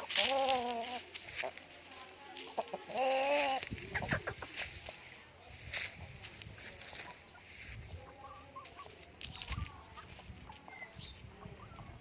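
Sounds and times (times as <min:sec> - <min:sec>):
chickens clucking softly: 0:02.4 - 0:12.0.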